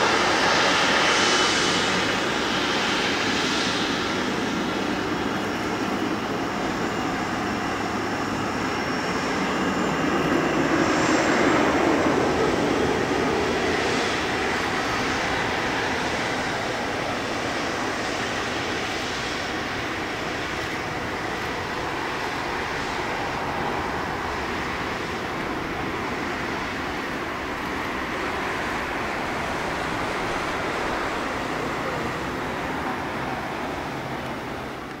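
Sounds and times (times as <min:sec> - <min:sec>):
jet engines humming: 0:00.0 - 0:35.0.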